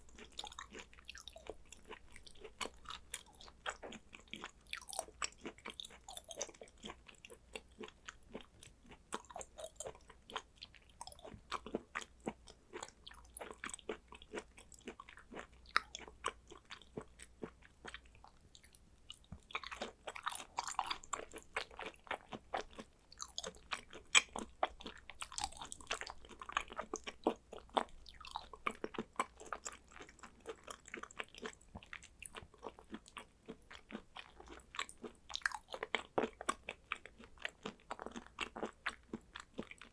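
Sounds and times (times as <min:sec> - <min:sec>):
close chewing and mouth clicks: 0:00.0 - 0:39.9.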